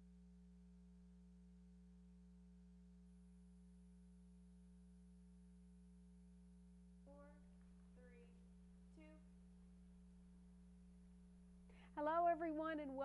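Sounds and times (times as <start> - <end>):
faint high whine: 0.0 - 13.0
faint steady hum: 0.0 - 13.0.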